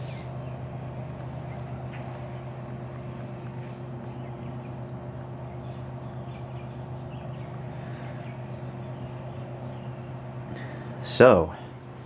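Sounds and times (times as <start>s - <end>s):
fridge compressor humming: 0.0s - 12.0s.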